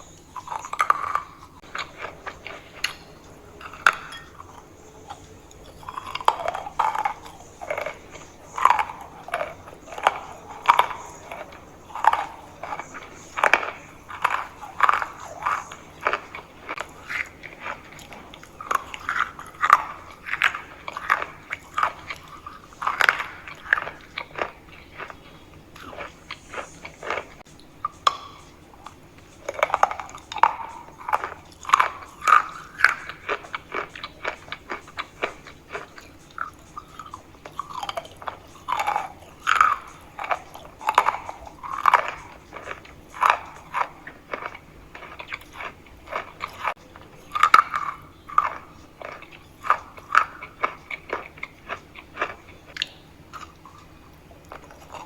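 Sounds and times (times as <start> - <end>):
chewing chalk crunches: 0.0 - 55.0.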